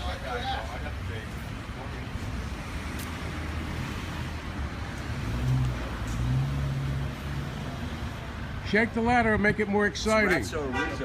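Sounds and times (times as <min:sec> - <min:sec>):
vehicle engine rumble: 0:00.0 - 0:10.7.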